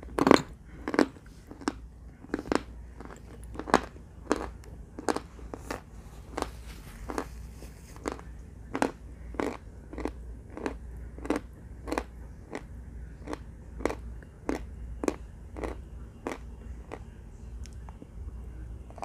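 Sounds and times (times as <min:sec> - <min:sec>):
person chewing crunchy clay: 0:00.0 - 0:07.3, 0:07.9 - 0:17.0.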